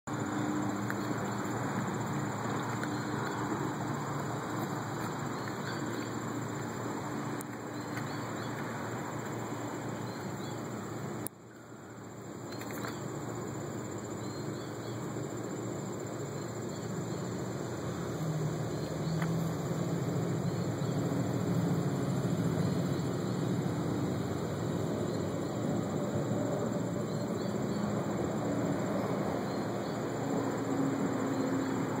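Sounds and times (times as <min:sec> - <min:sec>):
insects chirping: 0:00.1 - 0:32.0.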